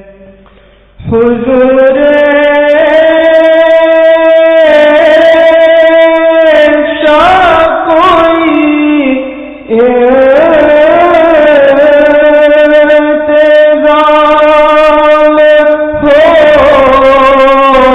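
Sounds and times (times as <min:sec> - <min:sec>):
person singing devotional song: 0:00.0 - 0:17.9.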